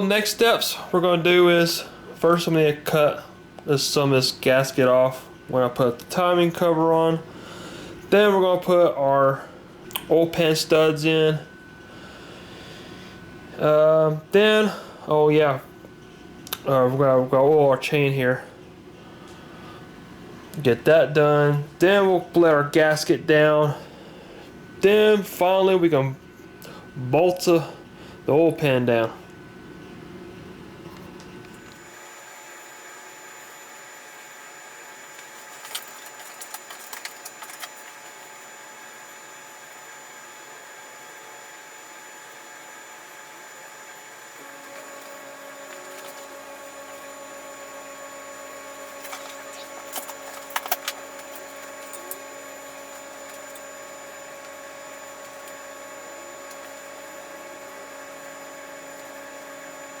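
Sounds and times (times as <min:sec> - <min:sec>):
steady background hum: 0:00.0 - 1:00.0.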